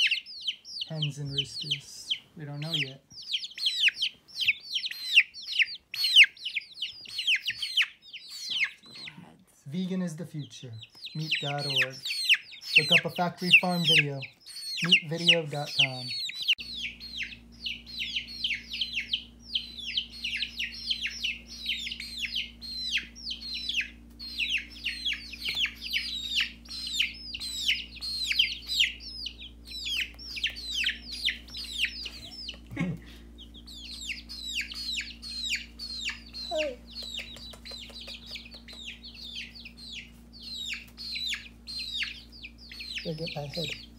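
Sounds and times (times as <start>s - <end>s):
baby chicks peeping: 0.0s - 43.9s
steady low hum: 0.0s - 43.9s.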